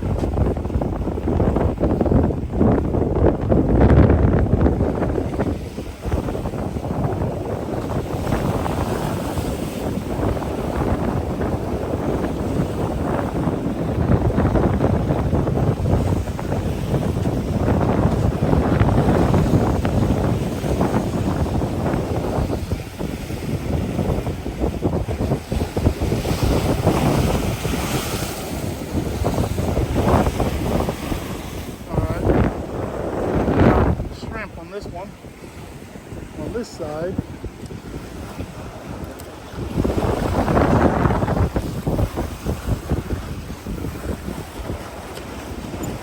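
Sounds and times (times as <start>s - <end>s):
strong wind on microphone: 0.0s - 46.0s.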